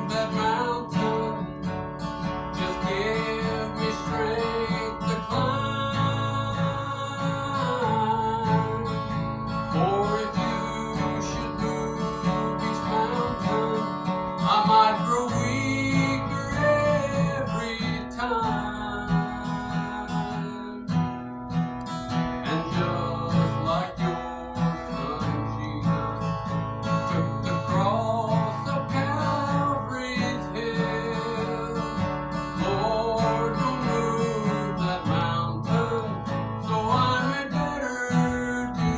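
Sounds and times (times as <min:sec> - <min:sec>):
person singing: 0:00.0 - 0:01.7, 0:02.5 - 0:21.1, 0:22.4 - 0:38.9
acoustic guitar strumming: 0:00.0 - 0:38.9.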